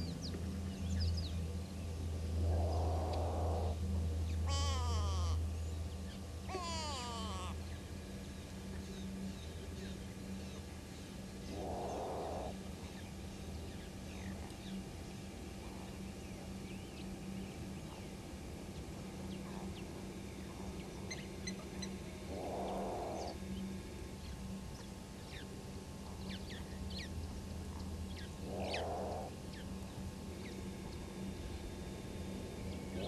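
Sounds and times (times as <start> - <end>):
birds chirping: 0.0 - 15.0, 15.6 - 25.5, 26.1 - 31.1
steady low hum: 0.0 - 33.0.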